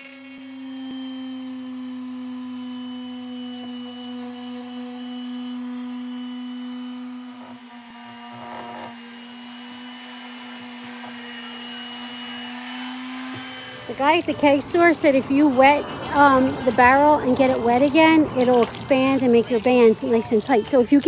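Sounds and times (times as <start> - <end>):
jigsaw cutting wood: 0.0 - 21.0.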